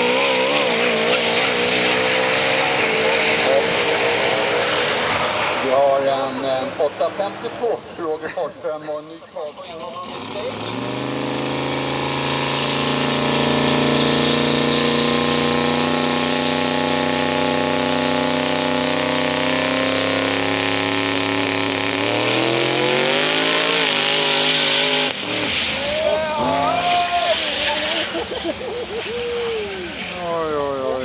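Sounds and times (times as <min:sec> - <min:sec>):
racing car engine revving: 0:00.0 - 0:08.2, 0:09.5 - 0:31.0.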